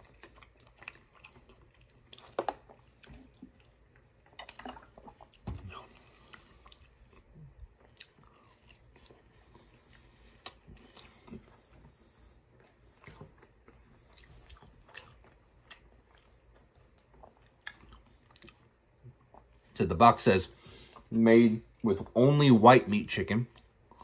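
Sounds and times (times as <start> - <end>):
faint biting and chewing: 0.0 - 19.8.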